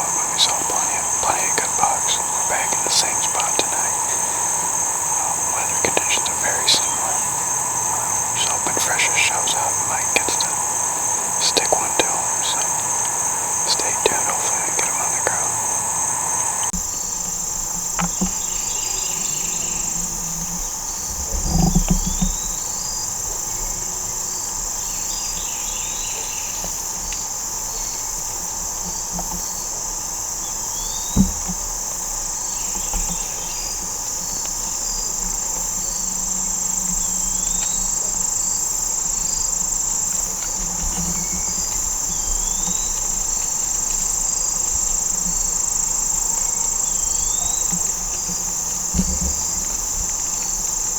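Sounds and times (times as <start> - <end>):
insect chorus buzzing: 0.0 - 50.9.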